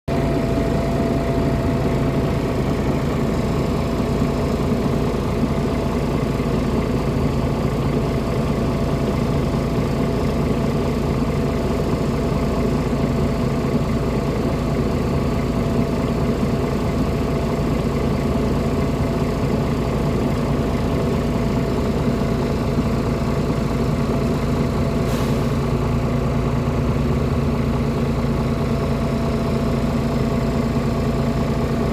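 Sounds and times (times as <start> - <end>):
engine droning steadily: 0.0 - 31.9.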